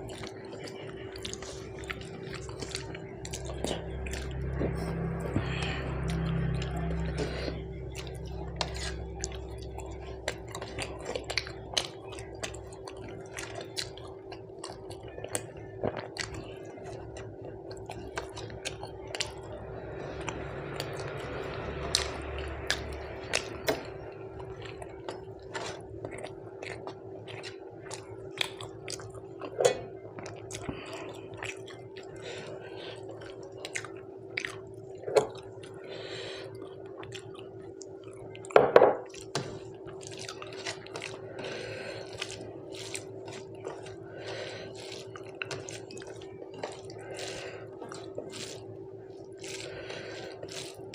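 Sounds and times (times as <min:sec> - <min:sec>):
person chewing with wet smacks: 0:00.0 - 0:50.9
steady hum: 0:00.0 - 0:50.9.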